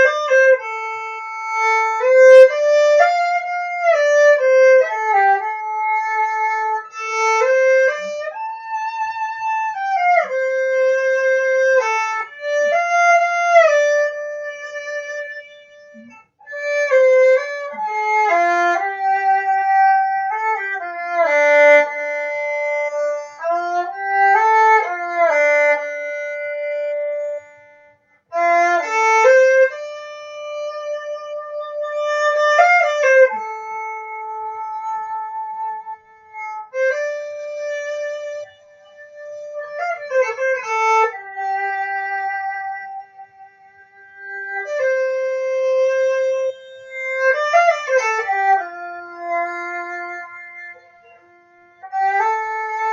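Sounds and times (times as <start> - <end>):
bowed string slow melody: 0.0 - 52.9.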